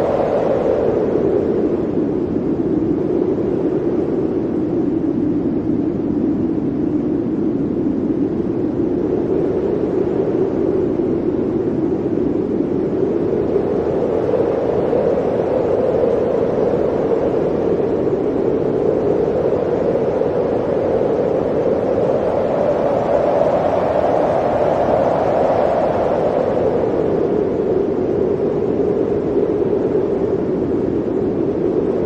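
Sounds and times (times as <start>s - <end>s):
blizzard wind blowing: 0.0s - 32.0s.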